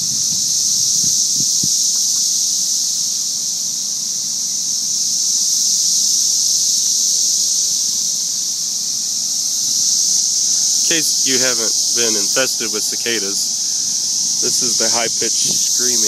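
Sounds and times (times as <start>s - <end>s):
cicadas singing: 0.0s - 16.0s.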